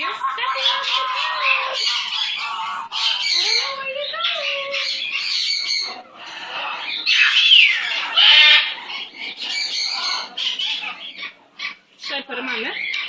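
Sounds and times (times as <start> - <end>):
parrot squawking: 0.0 - 13.0.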